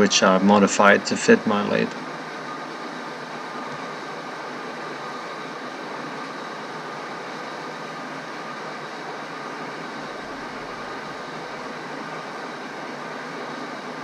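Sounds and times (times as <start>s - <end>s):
faint motor hum: 0.0s - 14.0s
metal lathe whirring: 1.9s - 14.0s.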